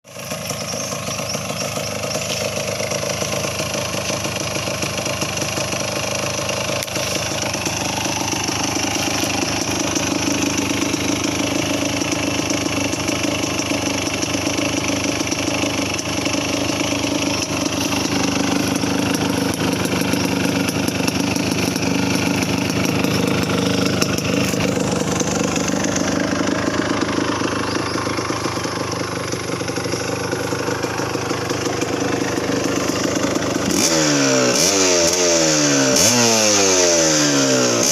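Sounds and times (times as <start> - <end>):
two-stroke engine idling: 0.0 - 37.9.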